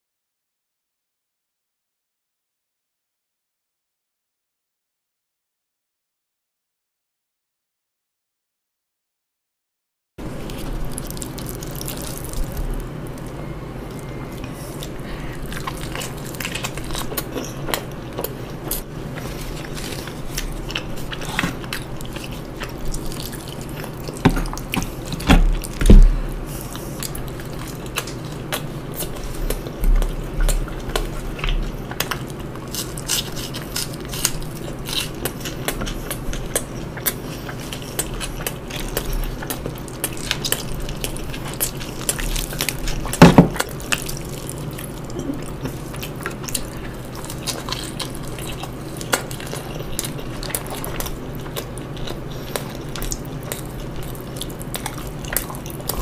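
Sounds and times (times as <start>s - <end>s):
chewing: 10.2s - 56.0s
low hum: 10.2s - 56.0s.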